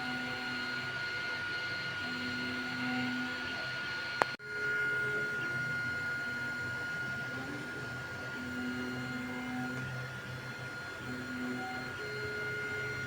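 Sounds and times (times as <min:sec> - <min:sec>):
high whine and low hum: 0:00.0 - 0:13.0.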